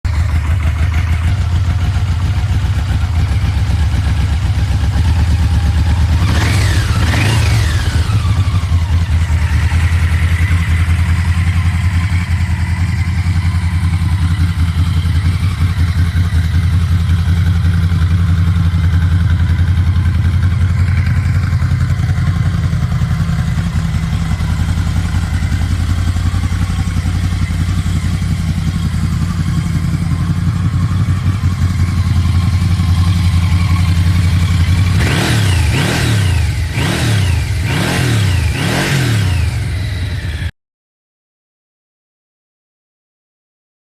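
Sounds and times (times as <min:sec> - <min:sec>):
motorcycle engine idling: 0:00.1 - 0:40.5.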